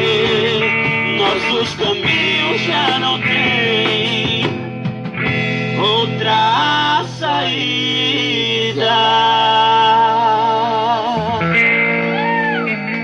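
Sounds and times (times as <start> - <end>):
person singing with vibrato: 0.0 - 4.8, 5.5 - 13.0
guitar accompaniment: 0.0 - 13.0
live band playing: 0.0 - 13.0.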